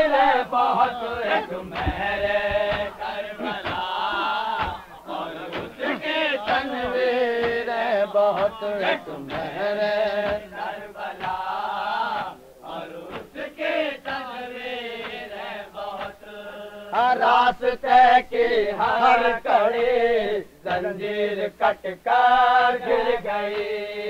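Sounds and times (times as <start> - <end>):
men chanting together: 0.0 - 24.0.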